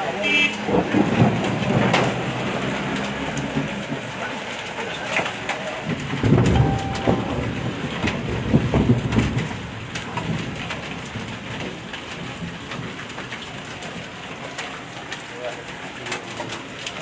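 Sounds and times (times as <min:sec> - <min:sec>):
hail and rain pelting: 0:00.0 - 0:17.0.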